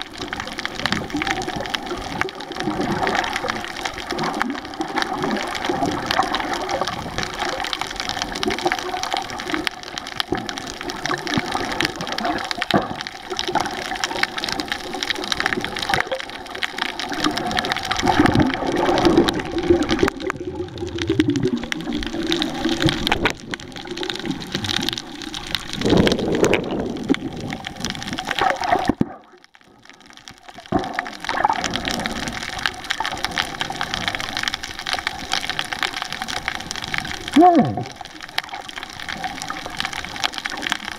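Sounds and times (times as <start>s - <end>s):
water sloshing and bubbling underwater: 0.0s - 40.9s.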